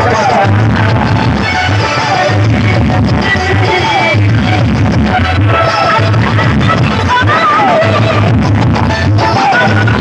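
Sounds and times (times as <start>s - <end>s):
heavy bass: 0.0s - 10.0s
loud dance music: 0.0s - 10.0s.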